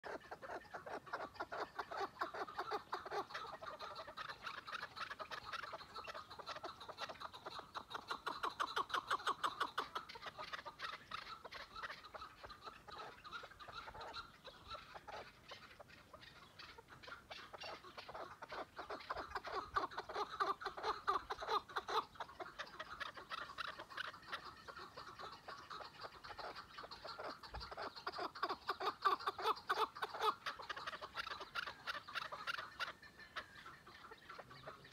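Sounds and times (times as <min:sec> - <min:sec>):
partridge clucking calls: 0:00.0 - 0:34.9.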